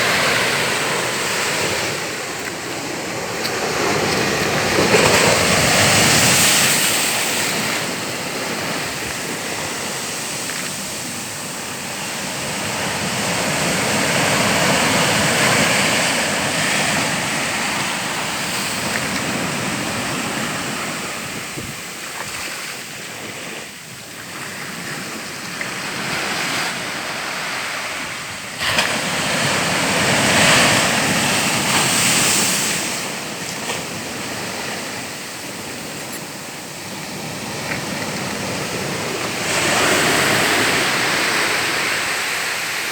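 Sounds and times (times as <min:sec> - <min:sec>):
surf rushing: 0:00.0 - 0:42.9.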